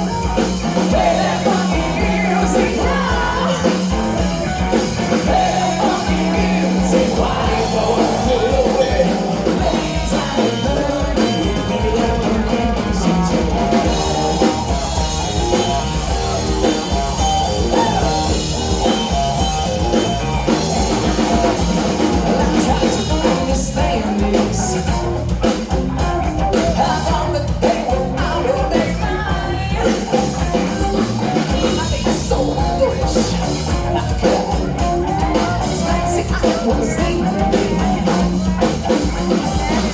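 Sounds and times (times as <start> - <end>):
person singing: 0.0 - 20.1, 20.7 - 39.9
drum kit: 0.0 - 39.9
guitar: 0.0 - 39.9.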